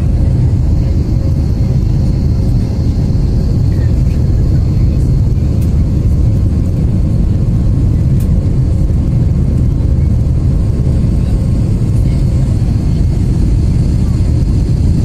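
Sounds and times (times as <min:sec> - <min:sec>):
airplane cabin engine roar: 0:00.0 - 0:15.0.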